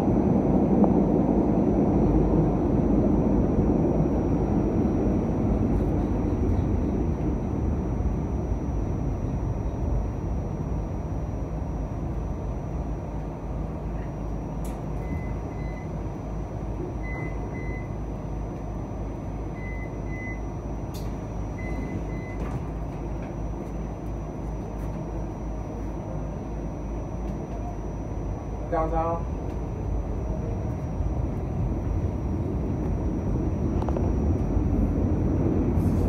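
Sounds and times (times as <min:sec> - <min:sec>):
light-rail car wheels rumbling: 0:00.0 - 0:19.6, 0:20.6 - 0:27.8, 0:28.4 - 0:36.0.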